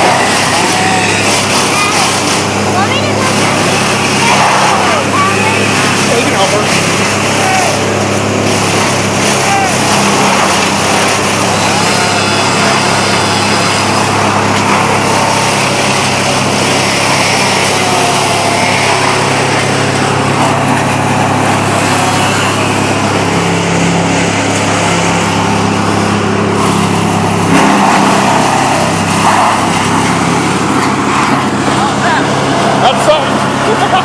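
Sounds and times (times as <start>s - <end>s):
engine running loudly: 0.0s - 34.0s.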